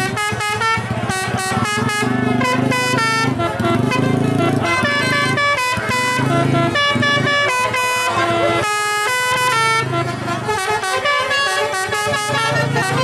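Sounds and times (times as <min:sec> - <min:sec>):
bus air horns playing melodies: 0:00.0 - 0:13.0
sustained horn chord: 0:00.0 - 0:13.0.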